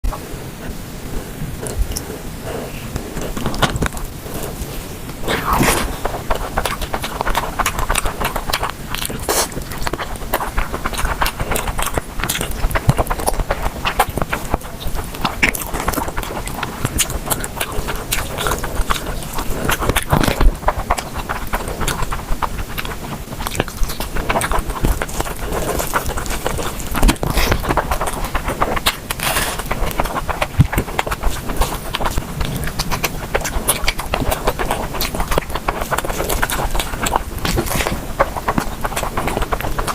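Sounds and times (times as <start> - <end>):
chewing and biting crackles: 0.0 - 39.9.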